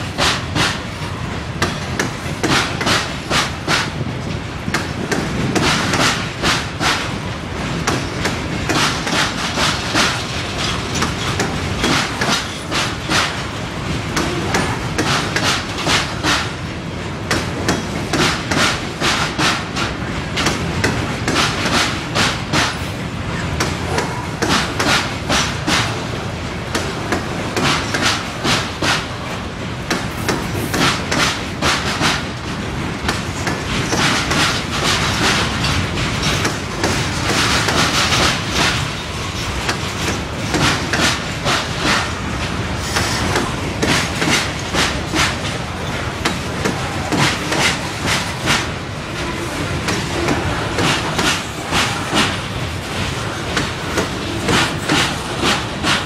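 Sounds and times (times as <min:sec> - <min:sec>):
train rumble: 0:00.0 - 0:56.0
train wheels clacking on rail joints: 0:00.0 - 0:56.0.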